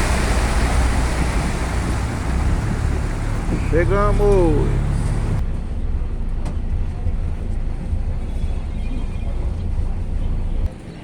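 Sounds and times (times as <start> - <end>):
boat engine rumbling: 0.0 - 10.7.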